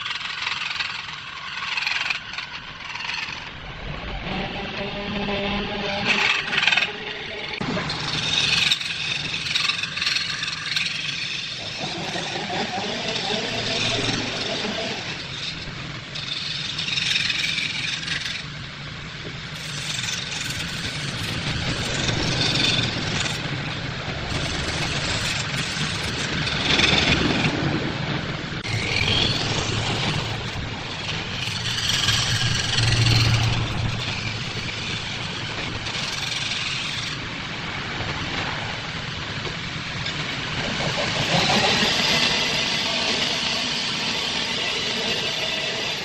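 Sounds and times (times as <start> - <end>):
gouge scraping spinning wood: 4.1 - 27.6, 28.6 - 37.3, 40.0 - 46.0.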